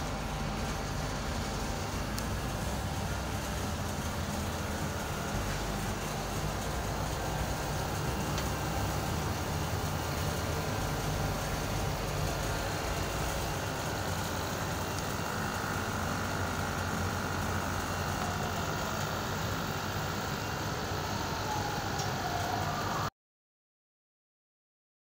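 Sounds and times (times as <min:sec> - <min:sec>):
air conditioner unit running: 0:00.0 - 0:23.0.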